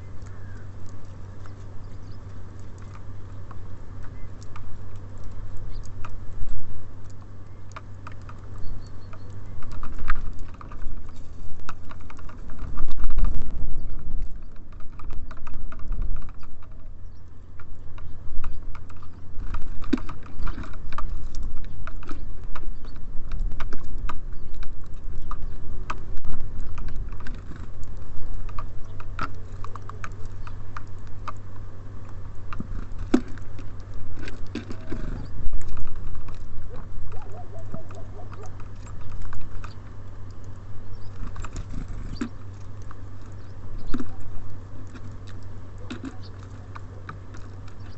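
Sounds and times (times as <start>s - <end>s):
birds pecking at feeder: 0.0s - 47.9s
steady low rumble: 0.0s - 47.9s.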